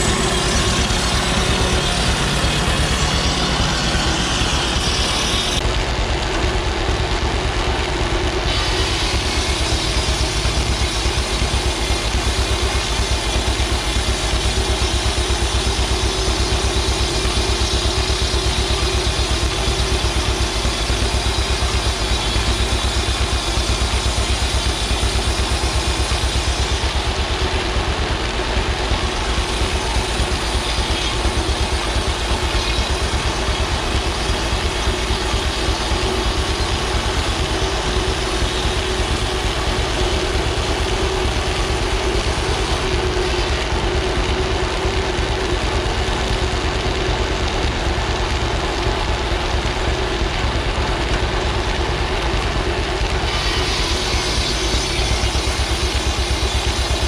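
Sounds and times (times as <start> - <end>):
mill machinery noise: 0.0 - 57.0
tractor engine running: 0.0 - 57.0.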